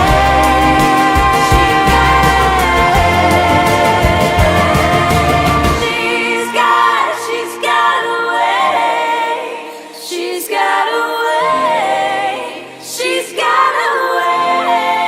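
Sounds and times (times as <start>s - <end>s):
wordless layered vocals: 0.0s - 15.0s.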